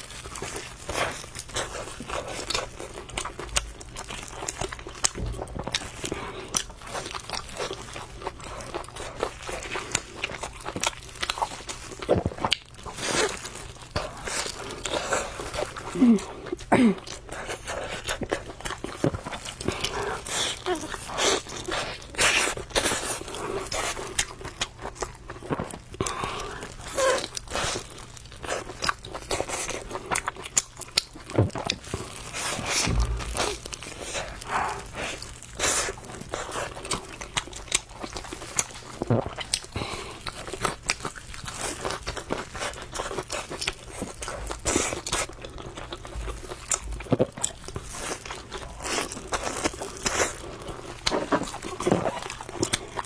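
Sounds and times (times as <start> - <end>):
chewing and crunching noodles: 0.0 - 53.0.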